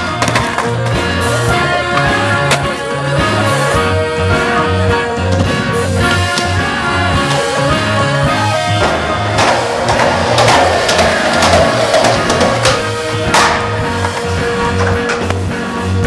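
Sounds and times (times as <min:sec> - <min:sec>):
background music with bass and drums: 0:00.0 - 0:16.0.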